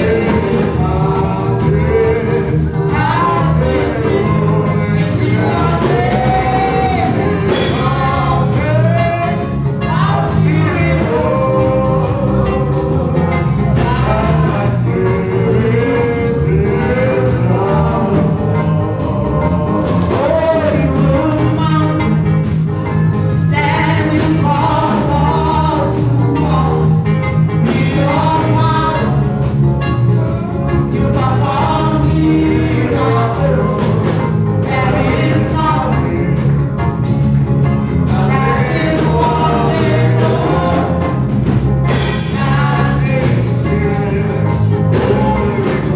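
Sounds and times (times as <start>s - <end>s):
gospel singing with bass and drums: 0.0s - 45.9s.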